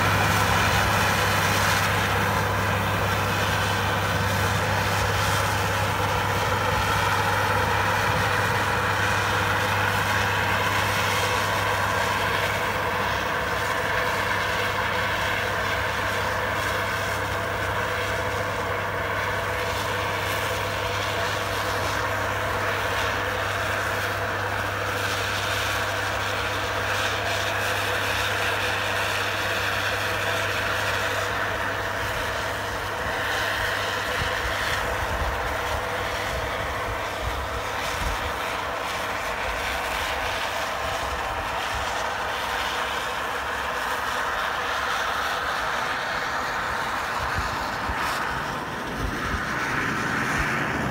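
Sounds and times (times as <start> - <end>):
wheel loader diesel engine: 0.0 - 50.9.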